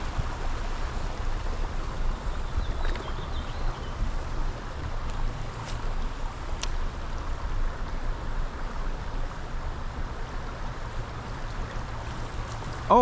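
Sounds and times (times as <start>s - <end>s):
river water rushing around legs: 0.0s - 13.0s.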